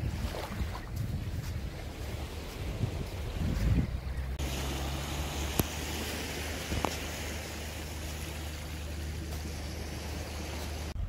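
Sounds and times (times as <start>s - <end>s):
small waves washing on sand: 0.0s - 11.0s.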